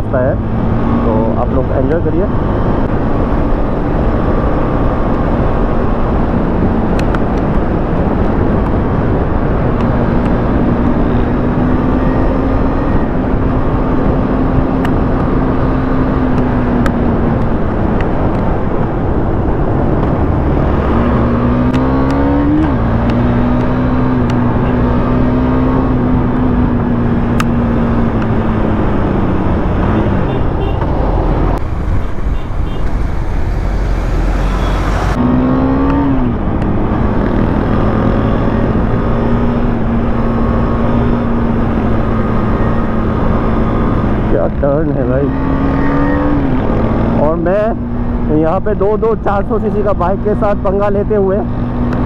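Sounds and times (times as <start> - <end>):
heavy wind noise: 0.0 - 52.0.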